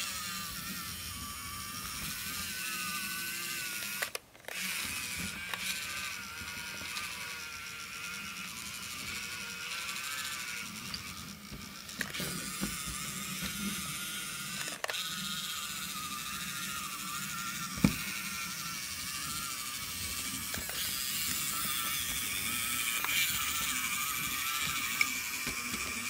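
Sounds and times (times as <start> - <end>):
small motor and gearbox whining: 0.0 - 26.0.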